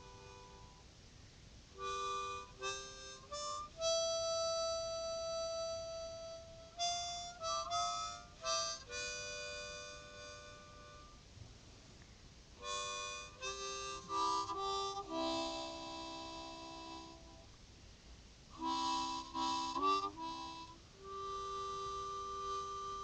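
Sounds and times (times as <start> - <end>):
instrumental music with held chords: 0.0 - 0.9, 1.8 - 11.2, 12.6 - 17.6, 18.5 - 23.0.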